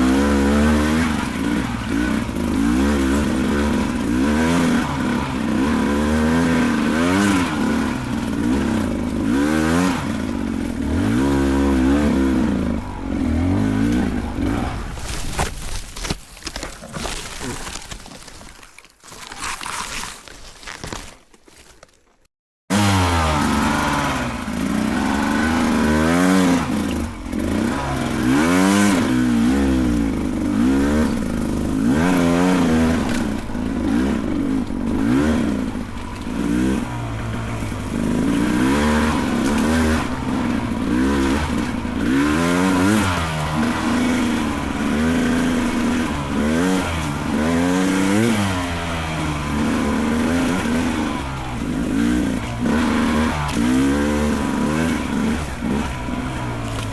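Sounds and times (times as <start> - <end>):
dirt bike engine revving: 0.0 - 15.5, 22.7 - 56.9.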